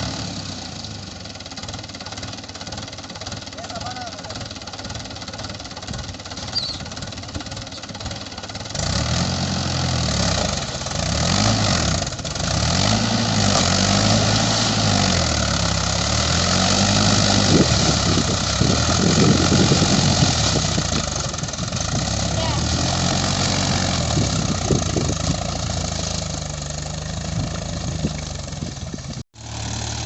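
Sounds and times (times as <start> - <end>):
tractor engine revving: 0.0 - 30.0.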